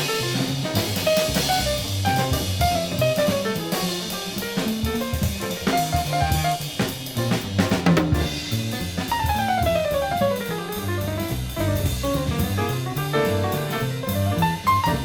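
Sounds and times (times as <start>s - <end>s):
drum kit playing: 0.0s - 15.0s
bass line: 0.2s - 15.0s.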